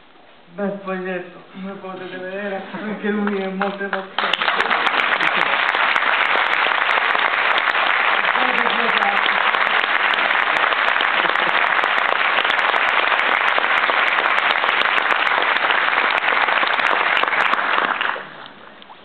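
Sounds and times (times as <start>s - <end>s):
audience applauding: 3.2s - 18.5s.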